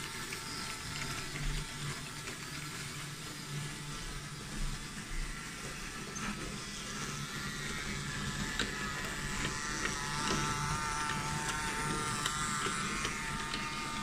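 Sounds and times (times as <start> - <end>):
toy train motors whining: 0.0 - 14.0.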